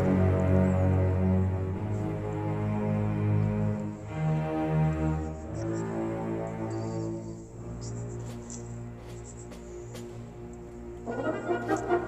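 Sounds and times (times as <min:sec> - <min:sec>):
dark cinematic music: 0:00.0 - 0:12.0.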